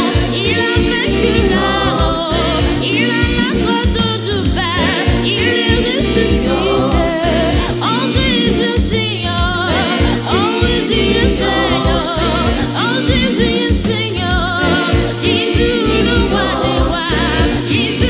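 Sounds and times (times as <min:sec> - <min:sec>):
gospel singing: 0:00.0 - 0:18.0
steady bass beat: 0:00.0 - 0:18.0.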